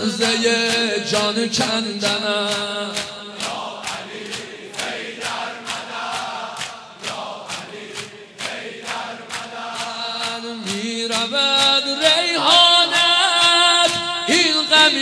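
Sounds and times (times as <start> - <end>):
crowd rhythmic chest beating: 0.0 - 15.0.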